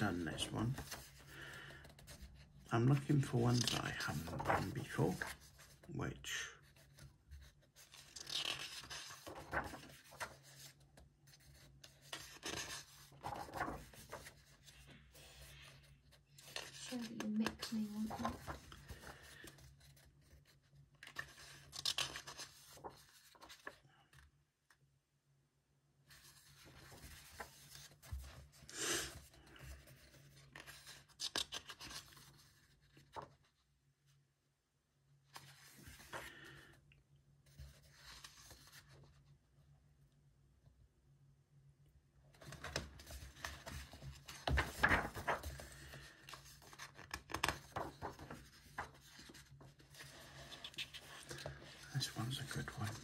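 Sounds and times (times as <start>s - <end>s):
book pages turning: 0.0s - 5.9s, 6.6s - 24.8s, 26.1s - 33.6s, 35.3s - 36.7s, 37.4s - 39.3s, 42.3s - 53.0s
paper rustling: 0.0s - 5.9s, 6.6s - 24.3s, 26.1s - 33.6s, 35.3s - 36.7s, 37.4s - 39.4s, 42.3s - 53.0s.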